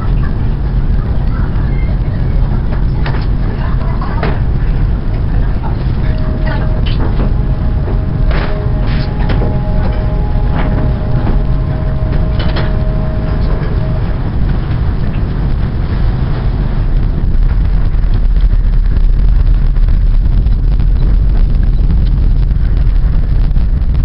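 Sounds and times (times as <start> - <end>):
ship engine and propeller rumble: 0.0 - 24.0
steady tones: 0.0 - 24.0
wind on microphone: 0.0 - 24.0.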